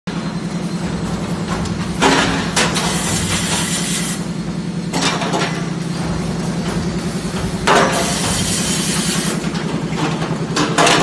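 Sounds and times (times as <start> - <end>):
machine humming with fast pulse: 0.1 - 10.6.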